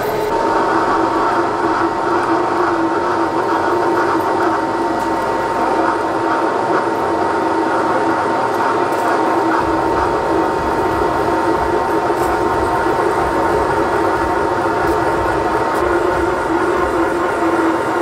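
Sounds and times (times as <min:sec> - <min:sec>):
milling machine spindle running: 0:00.0 - 0:18.0.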